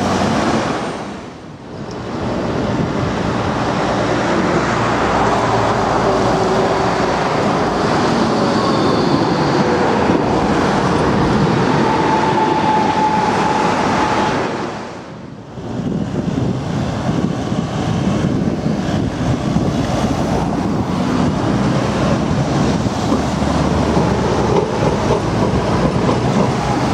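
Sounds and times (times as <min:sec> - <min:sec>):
tram wheels rumbling on rails: 0:00.0 - 0:26.9.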